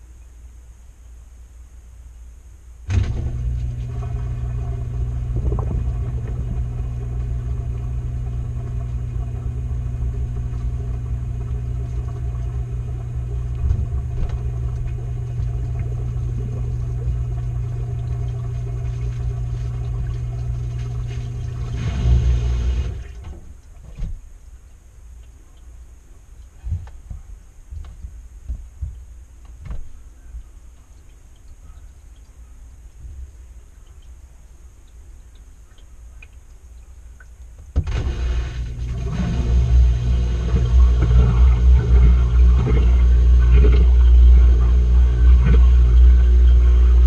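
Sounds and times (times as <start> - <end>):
motor hum: 0.0 - 32.4, 37.2 - 47.0.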